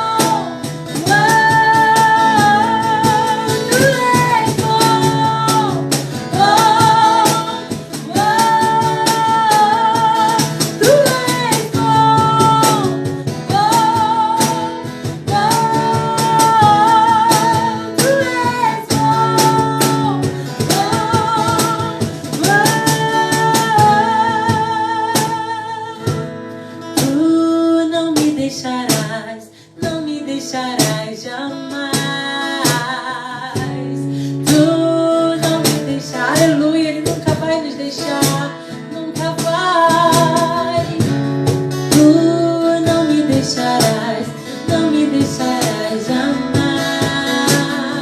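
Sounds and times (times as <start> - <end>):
strummed guitar: 0.0 - 48.0.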